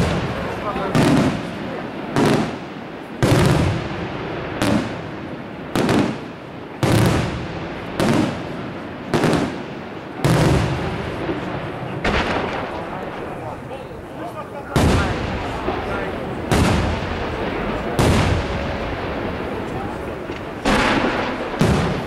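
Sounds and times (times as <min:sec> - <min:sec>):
fireworks booming: 0:00.0 - 0:22.0
rolling echo: 0:00.0 - 0:22.0.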